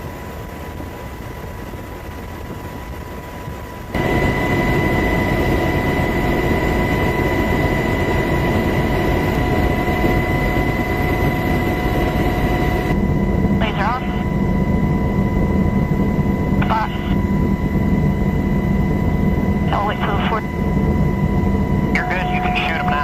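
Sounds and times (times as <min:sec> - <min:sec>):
helicopter turbine and rotor: 0:00.0 - 0:23.0.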